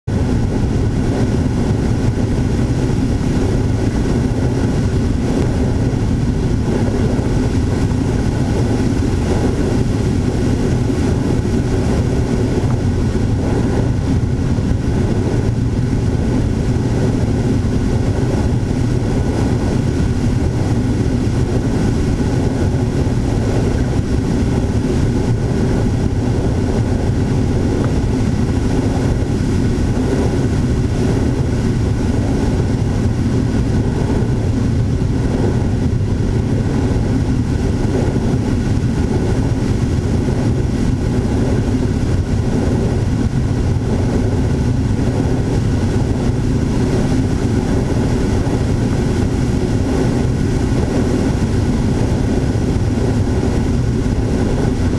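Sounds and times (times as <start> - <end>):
wind rushing: 0.0 - 54.9
model aircraft motor and propeller: 0.1 - 54.9.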